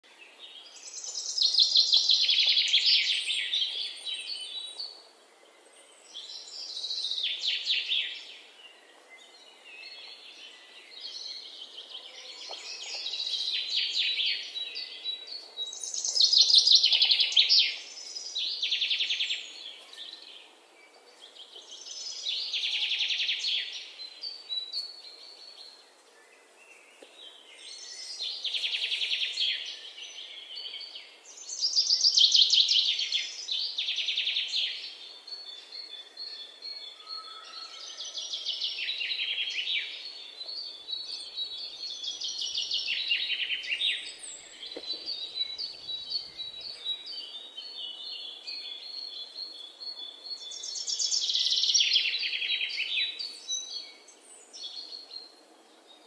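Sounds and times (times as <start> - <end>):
faint background noise: 0.0 - 56.0.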